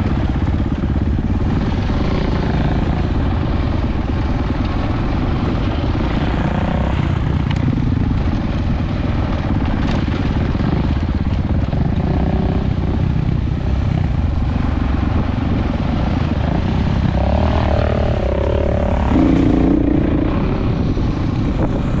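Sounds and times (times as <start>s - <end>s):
off-road vehicle engine: 0.0s - 22.0s
wind rumble on microphone: 0.0s - 22.0s.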